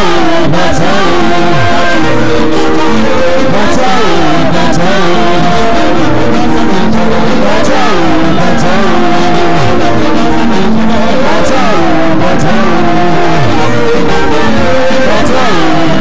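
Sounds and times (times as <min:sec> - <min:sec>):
loud compressed music: 0:00.0 - 0:16.0.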